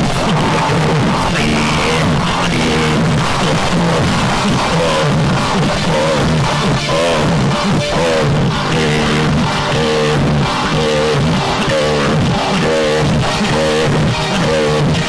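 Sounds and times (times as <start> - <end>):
low bass: 0.0 - 15.0.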